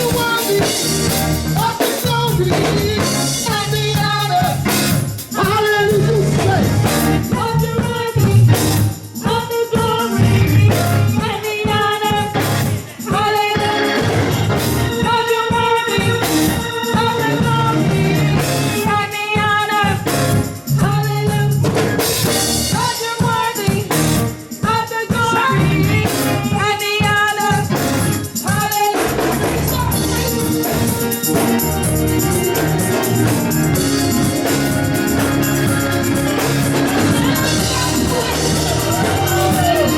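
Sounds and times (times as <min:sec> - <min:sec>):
band playing: 0:00.0 - 0:39.9
gospel singers: 0:00.0 - 0:39.9
tambourine: 0:00.0 - 0:39.9.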